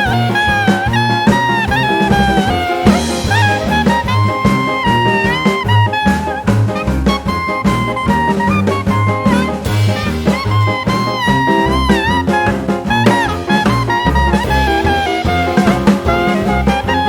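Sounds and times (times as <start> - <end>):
brass melody: 0.0 - 17.0
steady drum beat: 0.0 - 17.0.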